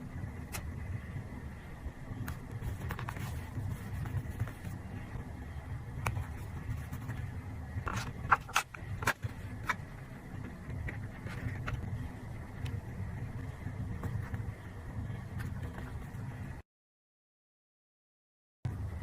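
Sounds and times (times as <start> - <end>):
steady low rumble: 0.0 - 16.6, 18.7 - 19.0.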